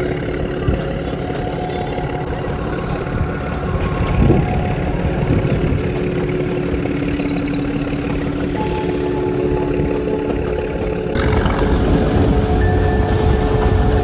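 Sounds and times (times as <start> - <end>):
toy train rumbling: 0.0 - 14.0.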